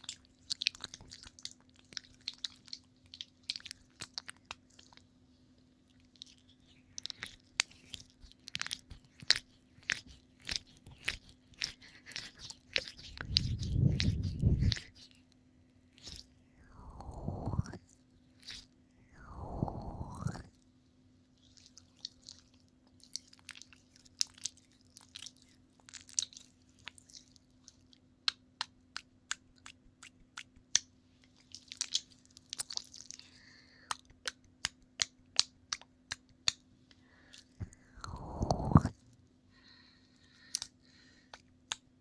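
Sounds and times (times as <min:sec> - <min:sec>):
wet tongue and lip clicks: 0:00.0 - 0:05.1, 0:05.9 - 0:15.4, 0:16.0 - 0:20.5, 0:21.4 - 0:36.7, 0:37.3 - 0:39.0, 0:40.5 - 0:42.0
faint steady hum: 0:00.0 - 0:42.0.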